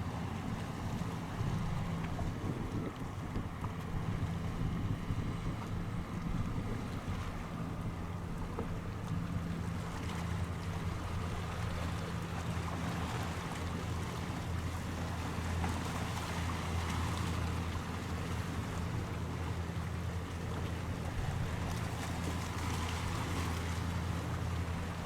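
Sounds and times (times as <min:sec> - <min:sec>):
boat engine humming: 0:00.0 - 0:25.0
water noise: 0:00.0 - 0:25.0
wind: 0:00.0 - 0:25.0.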